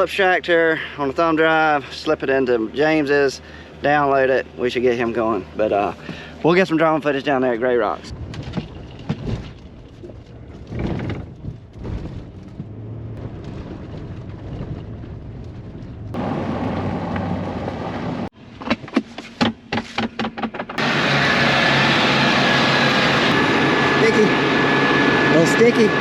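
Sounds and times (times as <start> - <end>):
engine and fan drone: 0.0 - 18.9, 19.8 - 26.0
vehicle engine rumbling: 0.0 - 26.0.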